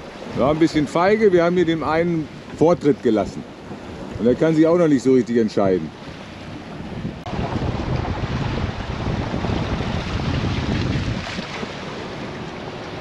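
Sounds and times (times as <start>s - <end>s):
choppy sea rushing: 0.0s - 13.0s
wind buffeting microphone: 0.0s - 13.0s.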